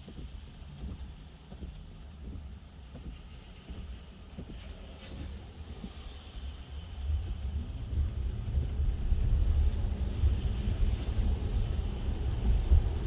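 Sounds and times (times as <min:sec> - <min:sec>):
road and tyre rumble in car: 0:00.0 - 0:13.0.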